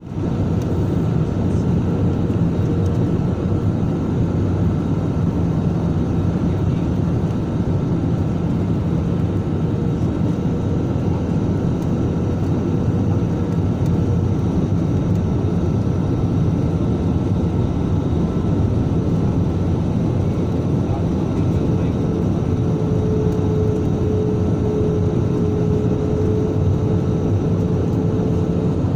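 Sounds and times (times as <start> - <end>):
jet engines and rushing air: 0.0 - 28.9.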